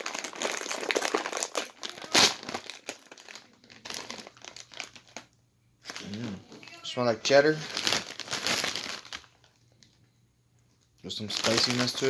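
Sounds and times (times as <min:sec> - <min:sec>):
chip bag crinkling: 0:00.0 - 0:09.9, 0:11.1 - 0:12.0.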